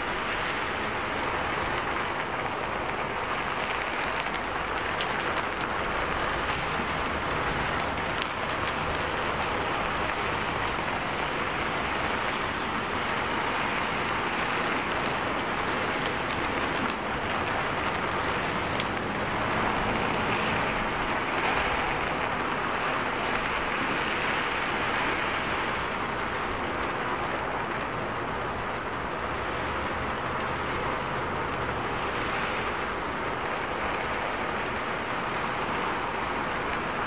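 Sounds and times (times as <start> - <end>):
heavy rain hissing: 0.0 - 37.0
low traffic hum: 0.0 - 37.0.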